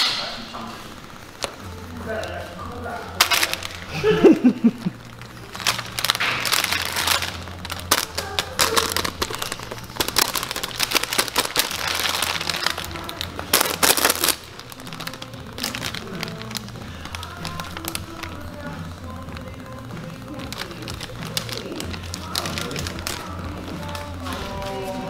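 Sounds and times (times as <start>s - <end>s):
fabric cat tunnel rustling: 1.0s - 25.0s.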